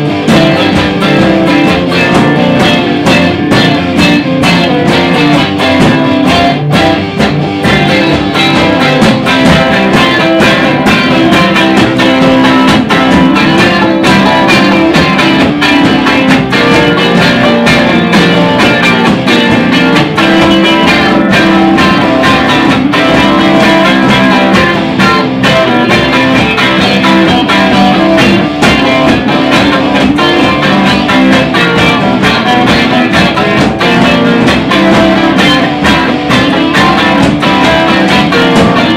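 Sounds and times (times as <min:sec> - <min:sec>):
drum kit steady beat: 0:00.0 - 0:38.9
electric guitars playing: 0:00.0 - 0:38.9.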